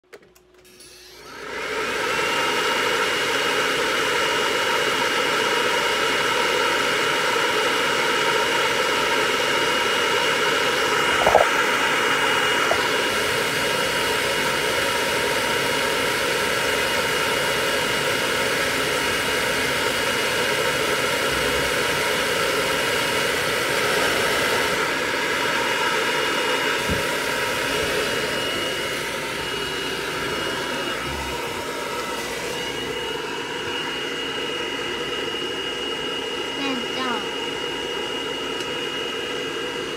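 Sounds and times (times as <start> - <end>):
electric dryer motor blowing: 0.1 - 39.9.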